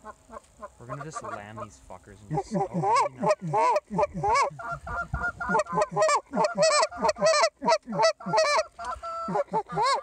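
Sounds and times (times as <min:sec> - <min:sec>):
goose call honking: 0:00.0 - 0:10.0.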